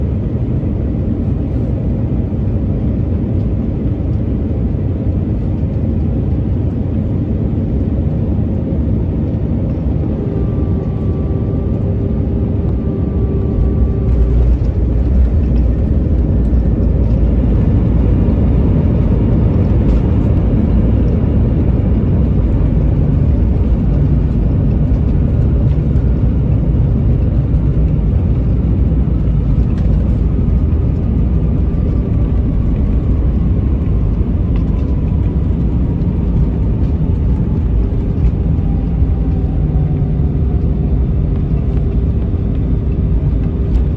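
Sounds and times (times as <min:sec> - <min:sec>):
aircraft rumble: 0:00.0 - 0:43.9
aircraft whine: 0:00.0 - 0:43.9.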